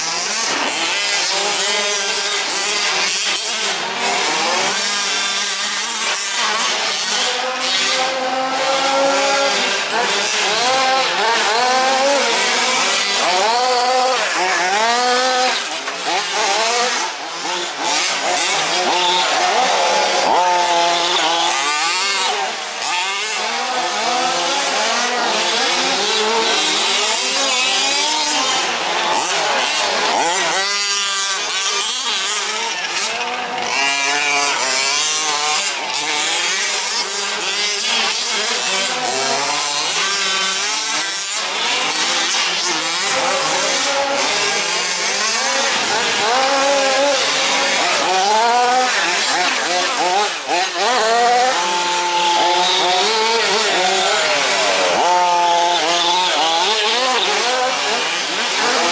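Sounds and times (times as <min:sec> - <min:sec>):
small engines revving: 0:00.0 - 0:58.9.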